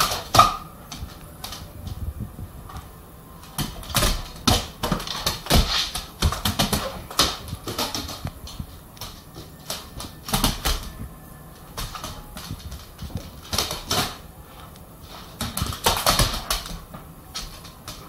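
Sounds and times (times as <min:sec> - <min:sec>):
dog claws clicking on floor: 0:02.7 - 0:11.0, 0:11.6 - 0:18.0.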